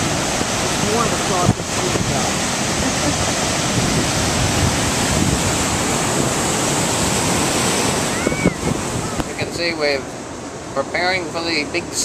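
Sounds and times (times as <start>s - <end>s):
wind buffeting microphone: 0.0s - 11.1s
ocean waves breaking on shore: 0.0s - 12.0s.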